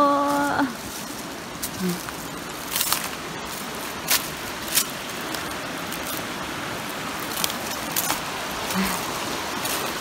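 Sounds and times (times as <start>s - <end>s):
stream flowing: 0.0s - 10.0s
footsteps on cobbles: 0.3s - 10.0s.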